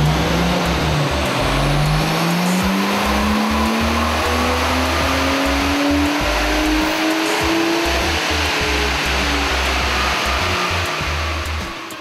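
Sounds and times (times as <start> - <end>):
background music: 0.0 - 12.0
turbocharged engine revving under load: 0.0 - 12.0.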